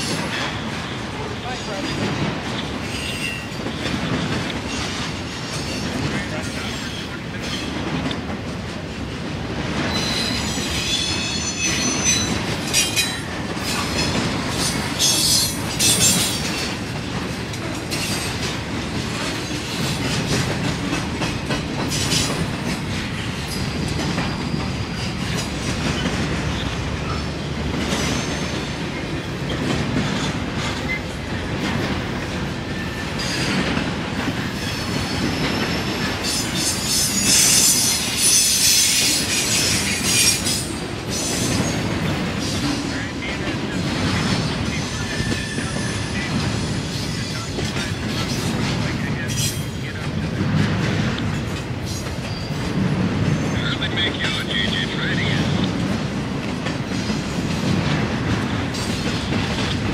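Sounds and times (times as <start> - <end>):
steel wheels rumbling on rail: 0.0 - 59.9
wheels clicking over rail joints: 0.0 - 59.9.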